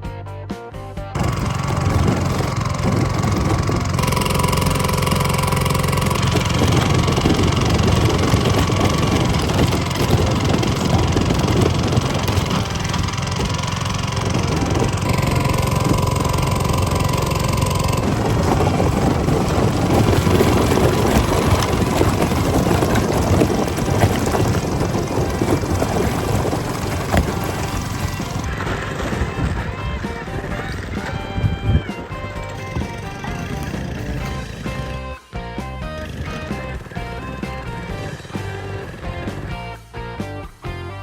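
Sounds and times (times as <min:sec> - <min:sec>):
boat engine running: 0:01.1 - 0:39.9.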